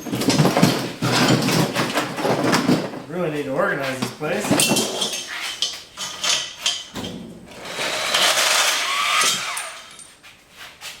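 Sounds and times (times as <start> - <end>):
metal tools clanking: 0.0 - 3.0, 3.9 - 10.2.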